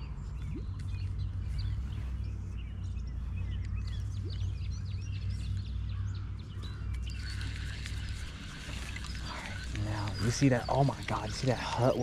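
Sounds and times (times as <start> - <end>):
songbirds chirping: 0.0 - 12.0
steady low rumble: 0.0 - 12.0.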